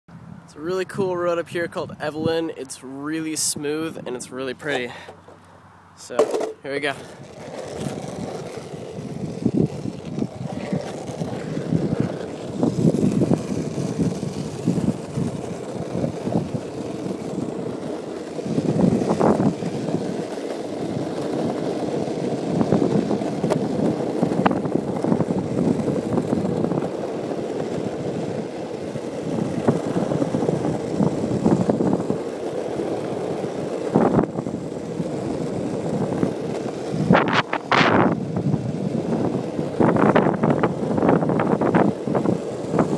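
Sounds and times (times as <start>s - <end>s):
longboard wheels rumbling on asphalt: 0.1s - 42.9s.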